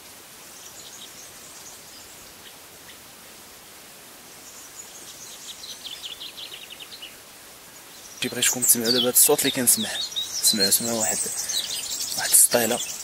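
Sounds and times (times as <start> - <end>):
songbird singing: 0.0 - 13.0
steady outdoor hiss: 0.0 - 13.0.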